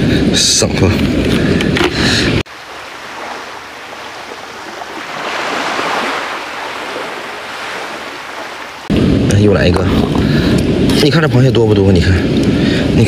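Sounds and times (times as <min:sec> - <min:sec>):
surf washing among rocks: 0:01.1 - 0:13.0.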